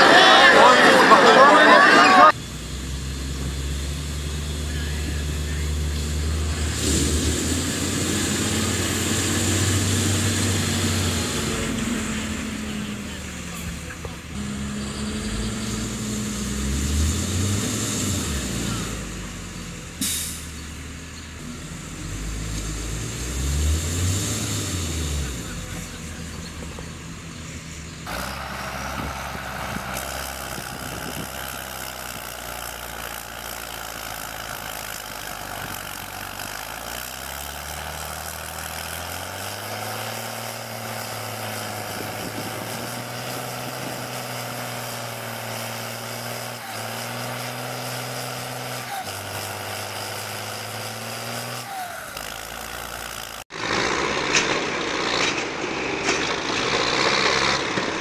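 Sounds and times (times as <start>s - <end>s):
rough engine noise close by: 0.0s - 58.0s
tractor diesel engines under load: 0.0s - 58.0s.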